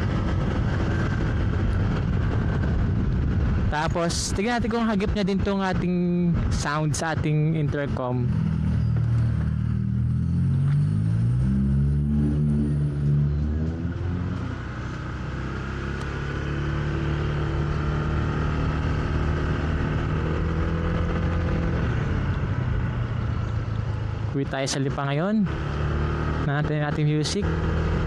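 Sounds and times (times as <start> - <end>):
motorcycle engine revving: 0.0 - 28.0
road noise: 0.0 - 28.0.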